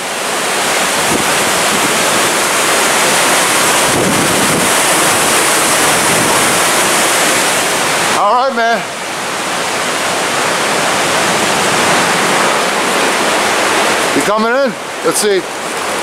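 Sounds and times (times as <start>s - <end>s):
fast-flowing creek water: 0.0s - 16.0s.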